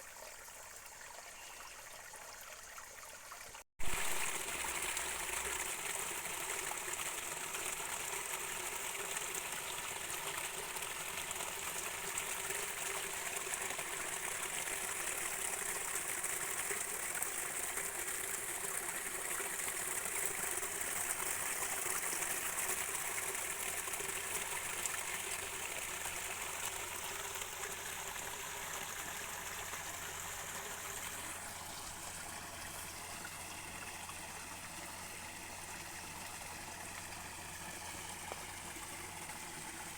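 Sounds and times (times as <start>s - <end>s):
water running over rocks: 2.2s - 39.9s.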